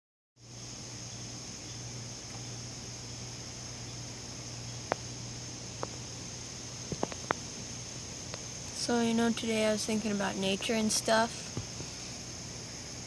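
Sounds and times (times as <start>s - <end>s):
high-pitched insect chorus: 0.4s - 13.0s
low steady hum: 0.4s - 13.0s.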